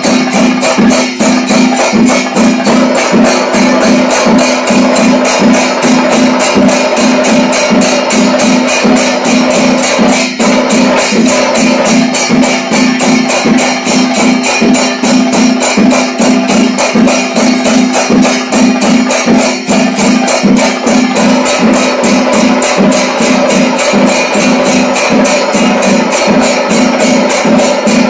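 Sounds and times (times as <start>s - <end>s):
cymbals: 0.0s - 28.0s
drums beating fast rhythm: 0.0s - 28.0s
steady held tone: 0.0s - 28.0s.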